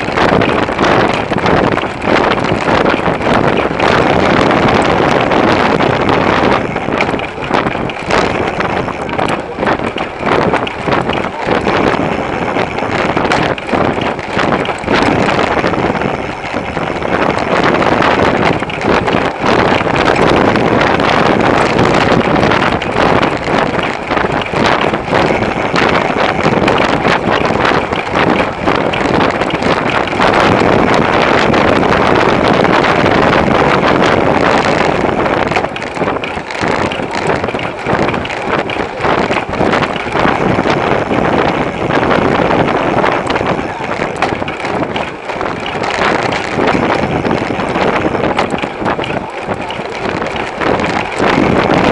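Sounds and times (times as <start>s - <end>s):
bike knocks and rattles: 0.0s - 51.9s
wind on microphone: 0.0s - 51.9s.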